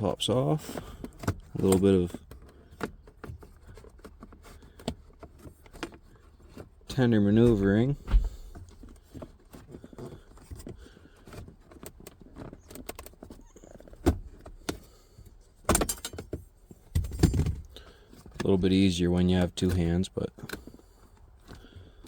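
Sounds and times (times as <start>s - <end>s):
plastic and metal parts rattling: 0.0s - 22.0s.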